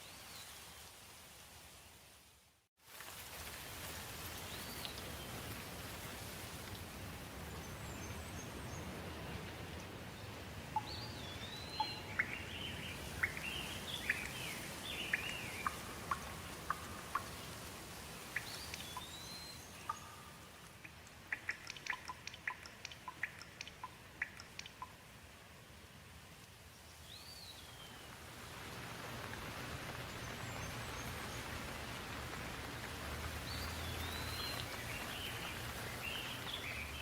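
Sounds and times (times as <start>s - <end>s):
steady rain: 0.0s - 37.0s
water drips: 2.9s - 10.0s, 10.6s - 25.4s, 26.3s - 37.0s.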